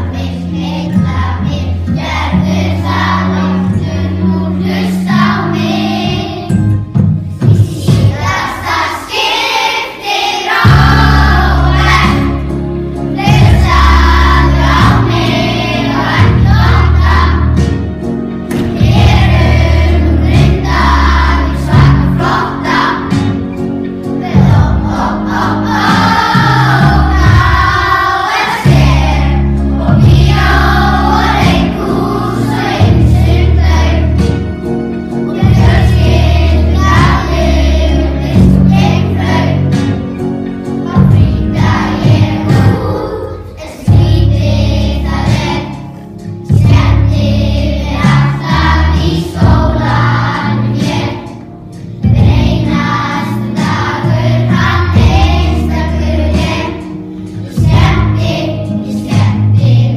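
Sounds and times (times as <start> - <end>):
children singing in unison: 0.0 - 6.7, 7.4 - 17.9, 18.5 - 34.6, 35.2 - 40.1, 40.8 - 59.9
pop backing track with bass: 0.0 - 8.9, 10.5 - 59.9.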